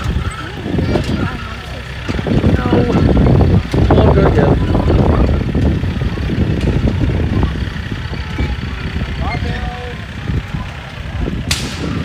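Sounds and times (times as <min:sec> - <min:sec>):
cart wheels rattling over grass: 0:00.0 - 0:12.0
children's voices: 0:00.0 - 0:12.0
tractor engine running: 0:00.0 - 0:12.0.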